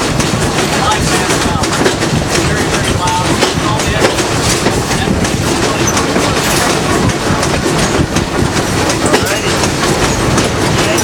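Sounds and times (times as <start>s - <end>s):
clicking over rail joints: 0.0s - 11.0s
train wheels rumbling on rails: 0.0s - 11.0s.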